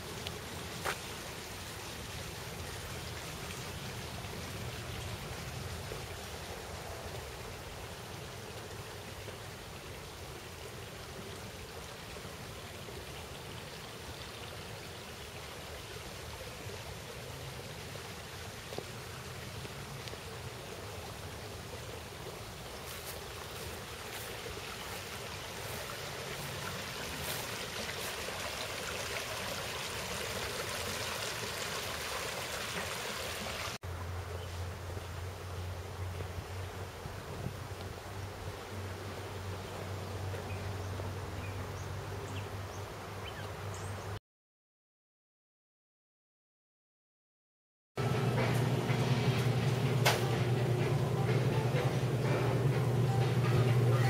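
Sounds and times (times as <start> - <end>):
stream running over rocks: 0.0 - 43.9.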